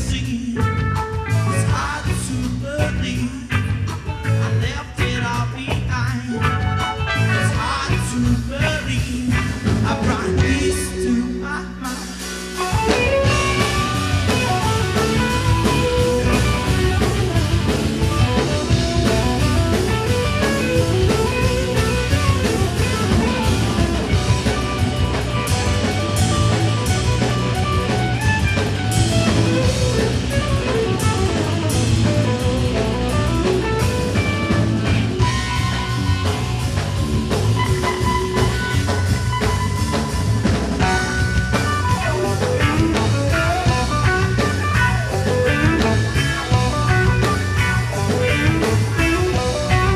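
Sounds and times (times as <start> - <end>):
drum kit steady beat: 0.0 - 11.2, 11.9 - 49.9
electric guitar: 0.0 - 49.9.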